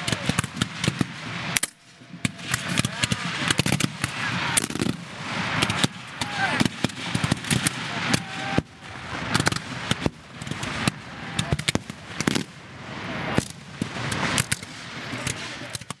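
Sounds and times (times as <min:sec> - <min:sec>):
rifle muskets firing: 0:00.0 - 0:16.0.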